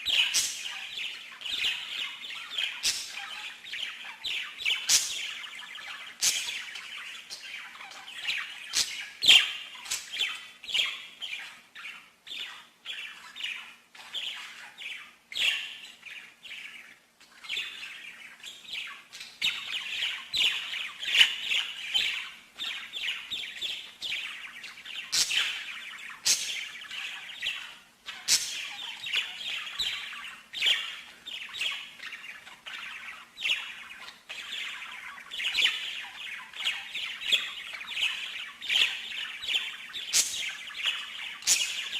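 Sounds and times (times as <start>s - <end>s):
faint steady hum: 0.0s - 41.9s
songbird singing: 0.0s - 41.9s.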